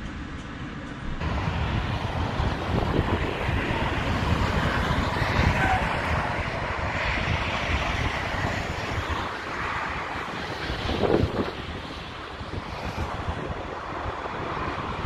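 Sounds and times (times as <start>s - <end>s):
motorway traffic rushing: 0.0s - 15.0s
wind buffeting microphone: 0.0s - 15.0s.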